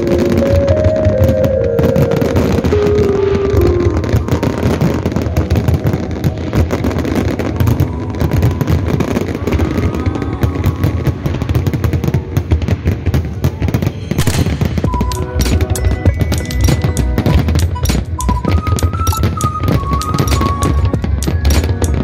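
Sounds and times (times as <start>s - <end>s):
fireworks popping and crackling: 0.0s - 22.0s.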